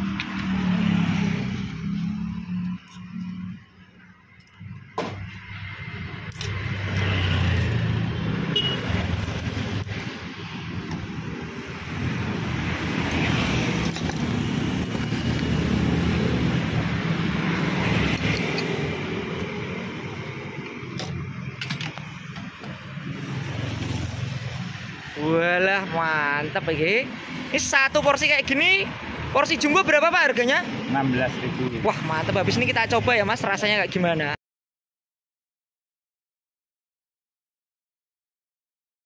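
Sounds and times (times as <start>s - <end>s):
road traffic passing: 0.0s - 34.4s.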